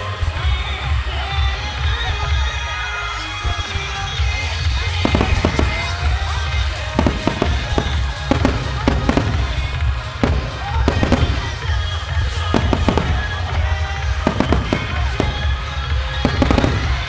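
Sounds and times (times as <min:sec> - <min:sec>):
fireworks bursting: 0:00.0 - 0:17.0
music over loudspeakers: 0:00.0 - 0:17.0.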